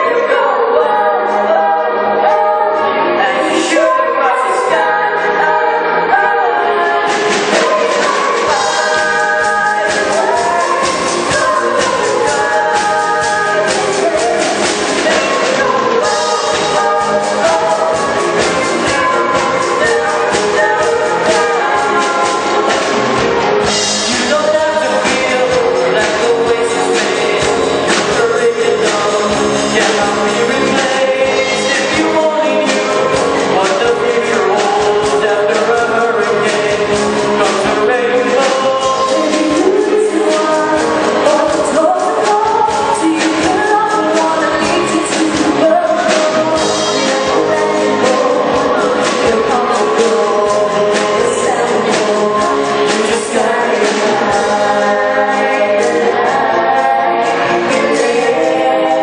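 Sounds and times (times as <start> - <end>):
children's choir singing: 0.0 - 59.0
instrumental backing with beat: 6.8 - 59.0.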